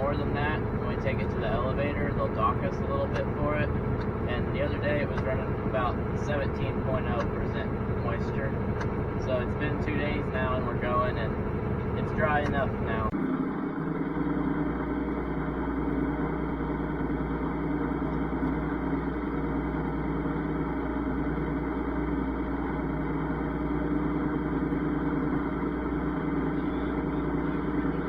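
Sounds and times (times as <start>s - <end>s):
combine harvester running: 0.0s - 28.0s.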